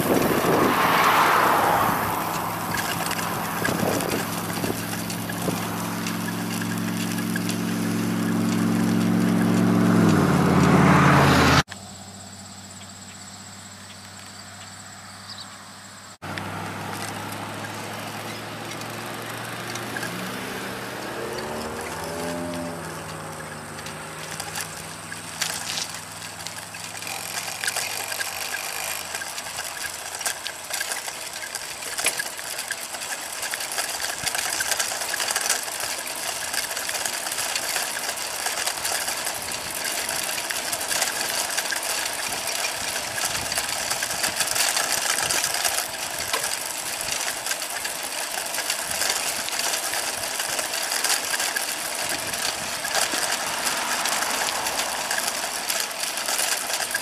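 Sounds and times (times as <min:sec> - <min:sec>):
bicycle chain clicking: 0:00.0 - 0:11.6, 0:16.3 - 0:57.0
bicycle tyres hissing: 0:00.0 - 0:14.1, 0:16.2 - 0:57.0
passing vehicle engine: 0:00.0 - 0:57.0.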